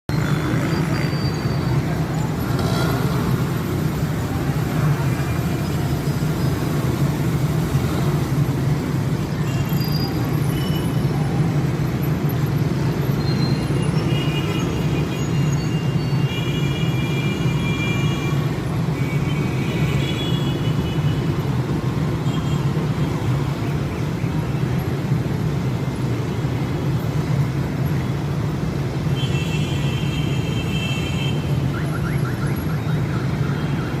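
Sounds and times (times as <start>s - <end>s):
motorcycle engines rumbling: 0.1s - 34.0s.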